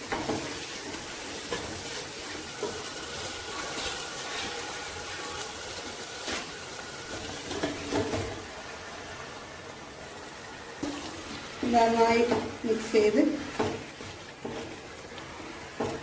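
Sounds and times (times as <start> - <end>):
masala sizzling in a pan: 0.0 - 16.0.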